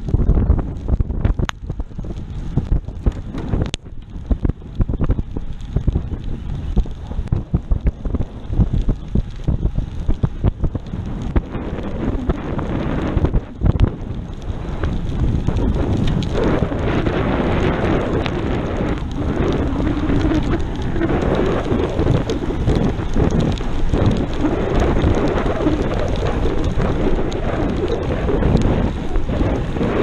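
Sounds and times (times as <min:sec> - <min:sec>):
rain hissing: 0:00.0 - 0:30.0
wet tyres on road: 0:00.0 - 0:30.0
wind buffeting microphone: 0:00.0 - 0:30.0.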